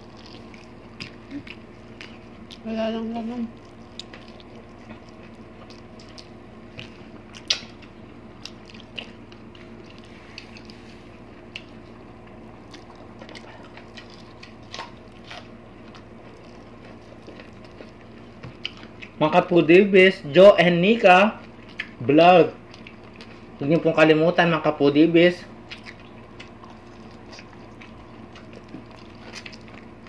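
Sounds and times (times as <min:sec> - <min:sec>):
chewing and lip smacks: 0:00.0 - 0:02.7, 0:03.5 - 0:19.2, 0:21.4 - 0:22.0, 0:22.6 - 0:23.6, 0:25.6 - 0:30.0
low background hum: 0:00.0 - 0:30.0.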